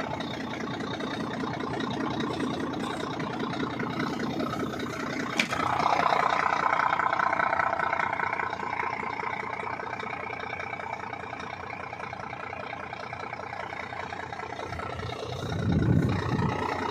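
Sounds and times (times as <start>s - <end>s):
diesel truck engine running: 0.0s - 16.9s.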